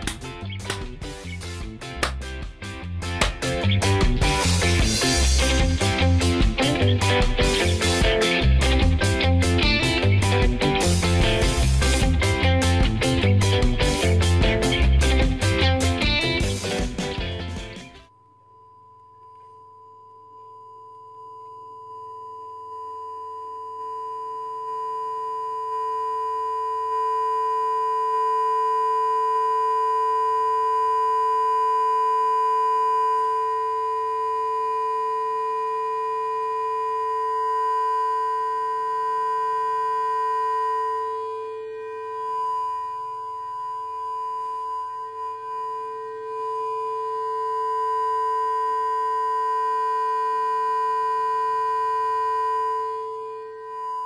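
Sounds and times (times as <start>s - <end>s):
electronic test tone: 3.4s - 13.2s, 18.1s - 54.0s.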